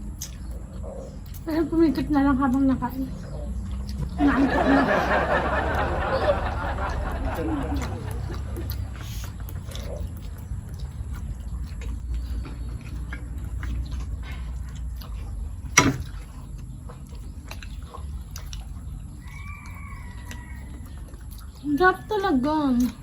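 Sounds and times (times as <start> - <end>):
chewing and food handling clicks: 0.0 - 23.0
low background rumble: 0.0 - 23.0.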